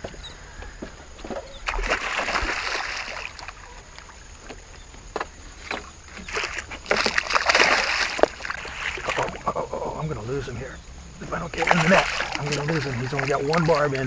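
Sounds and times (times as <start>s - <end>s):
water splashing: 0.0s - 14.0s
fish slapping the water surface: 1.3s - 10.6s, 11.2s - 14.0s.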